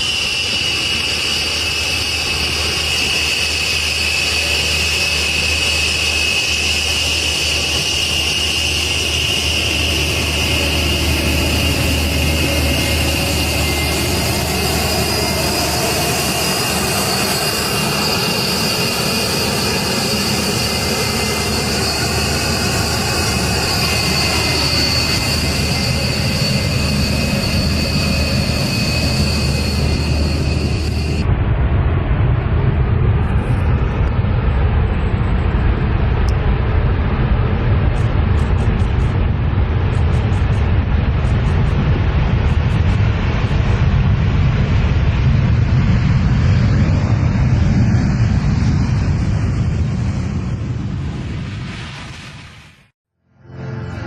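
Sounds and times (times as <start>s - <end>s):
jet engine whining: 0.0s - 53.0s.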